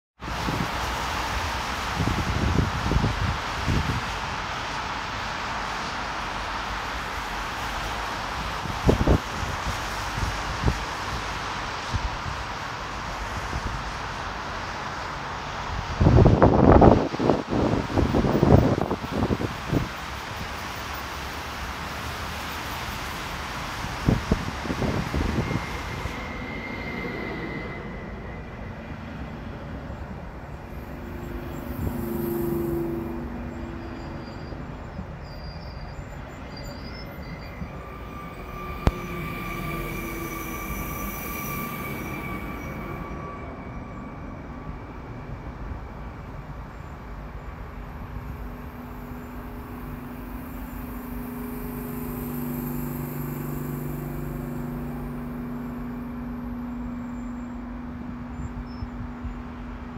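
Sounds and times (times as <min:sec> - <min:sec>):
electric train drive whine: 0:00.3 - 0:59.9
train equipment humming: 0:00.3 - 0:59.9
train wheel and brake squeal: 0:07.2 - 0:59.9.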